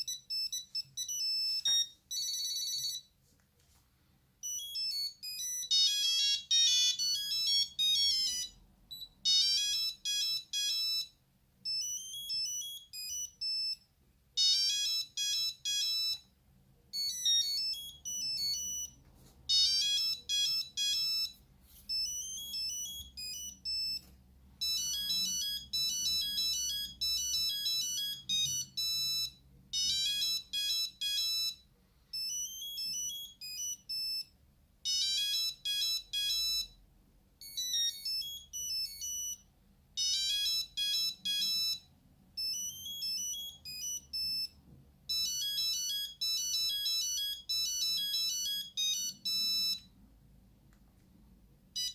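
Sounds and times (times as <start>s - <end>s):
mobile phone ringtone beeping: 0.0s - 3.1s, 4.4s - 16.3s, 16.9s - 36.8s, 37.4s - 49.9s.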